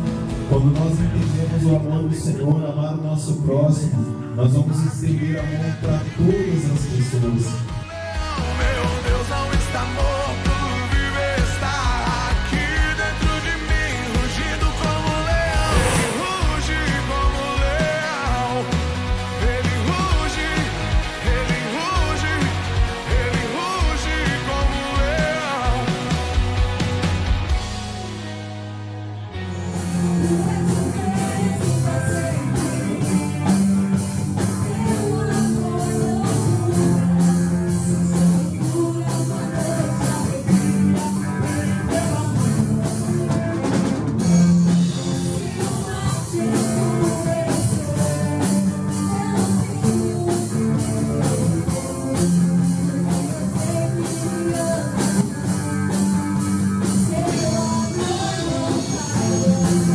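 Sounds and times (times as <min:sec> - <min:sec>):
live band playing rock song: 0:00.0 - 0:02.3, 0:04.1 - 0:59.9.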